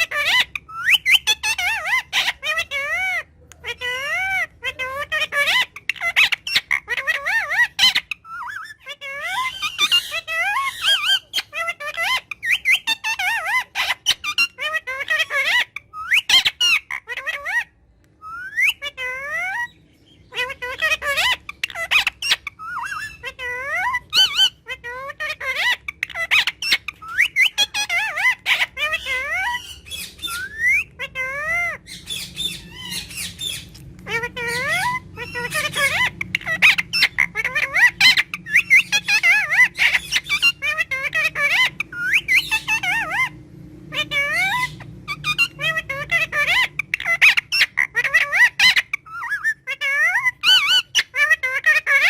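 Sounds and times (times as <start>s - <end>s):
parrot warbling and whistling: 0.0s - 52.0s.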